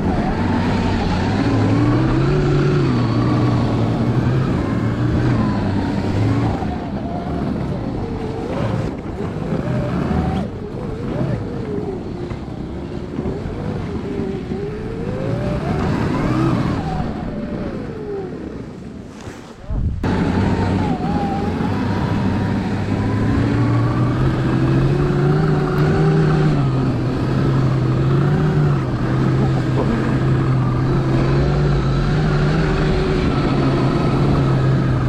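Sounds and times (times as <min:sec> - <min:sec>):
track rushing through snow: 0:00.0 - 0:35.0.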